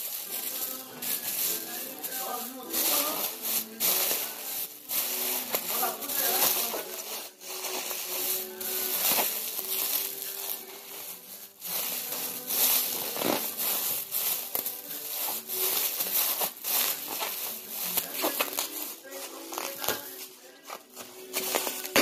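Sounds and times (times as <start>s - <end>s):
plastic bag crinkling: 0.0s - 22.0s.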